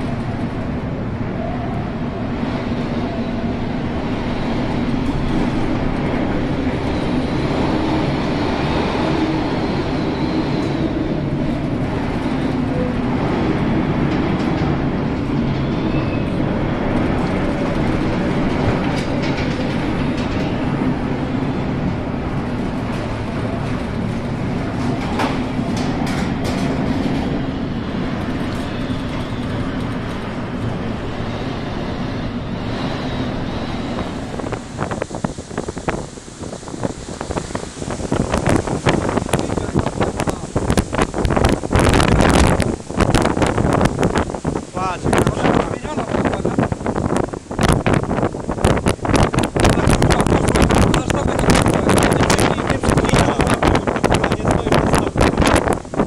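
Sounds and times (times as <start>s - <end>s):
heavy seas: 0.0s - 56.0s
storm wind rumbling: 0.0s - 56.0s.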